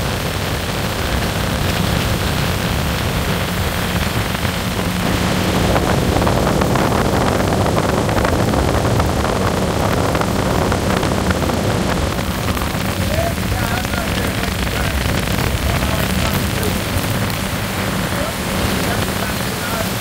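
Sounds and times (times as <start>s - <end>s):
boat motor humming: 0.0s - 20.0s
water rushing past hull: 0.0s - 20.0s
wind buffeting microphone: 0.0s - 20.0s.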